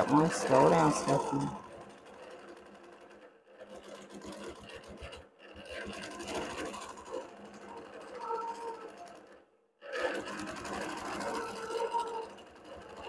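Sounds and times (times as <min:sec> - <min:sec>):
quilting machine stitching: 0:00.0 - 0:13.0.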